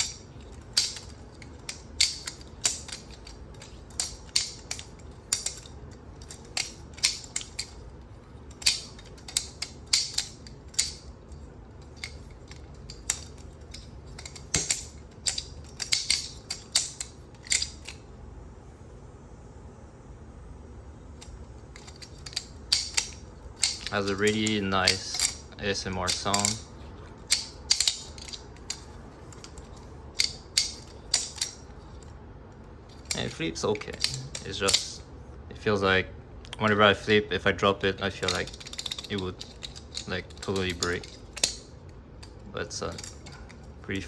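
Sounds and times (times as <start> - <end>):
butterfly knife handles clacking: 0.0 - 18.0, 21.2 - 32.1, 32.9 - 35.0, 37.9 - 44.0.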